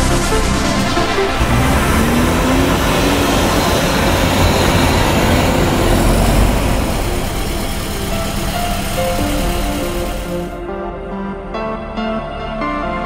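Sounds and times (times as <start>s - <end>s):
road noise: 0.0s - 10.6s
low rumble: 0.0s - 10.8s
car engine running: 0.1s - 10.6s.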